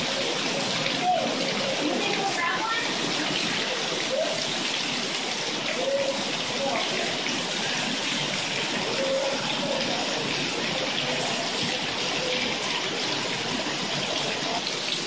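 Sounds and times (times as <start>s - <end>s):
heavy rain and hail: 0.0s - 15.0s.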